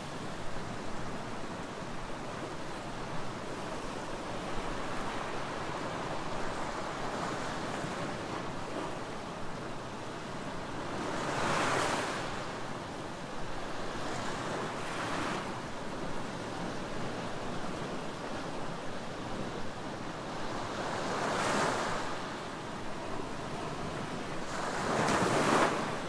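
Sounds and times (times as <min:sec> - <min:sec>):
small waves lapping on beach: 0:00.0 - 0:26.0.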